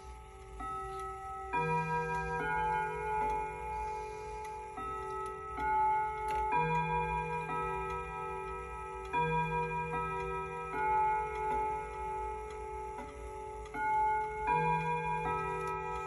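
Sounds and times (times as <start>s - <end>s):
clock chime melody: 0.0s - 16.0s
clock ticking: 0.0s - 16.0s.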